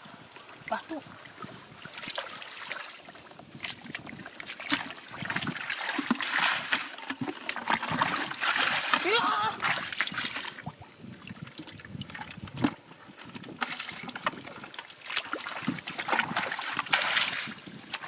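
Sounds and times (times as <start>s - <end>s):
bucket sloshing muddy water: 0.2s - 18.0s.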